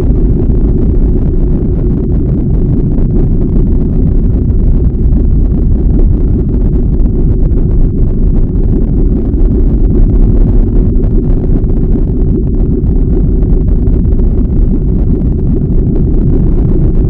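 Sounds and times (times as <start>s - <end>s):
deep rumbling noise: 0.0s - 17.0s.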